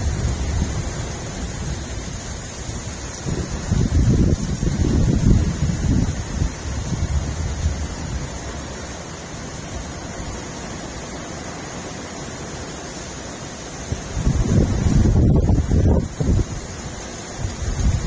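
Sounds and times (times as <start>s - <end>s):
wind buffeting microphone: 0.0s - 10.9s, 13.8s - 18.0s
heavy rain hissing: 0.0s - 18.0s.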